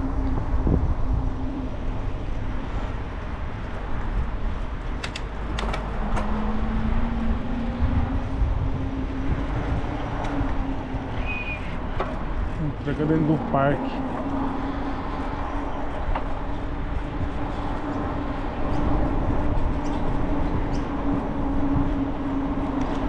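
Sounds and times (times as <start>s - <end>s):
steady riding rush: 0.0s - 23.0s.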